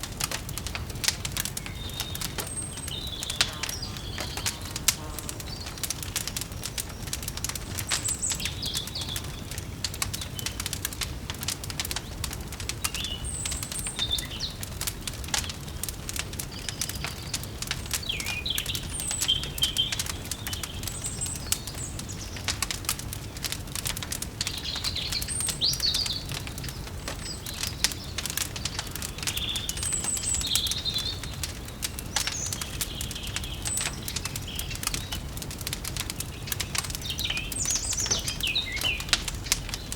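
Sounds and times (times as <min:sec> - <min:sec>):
small birds chirping: 0:00.0 - 0:39.9
wood fire crackling: 0:00.0 - 0:39.9.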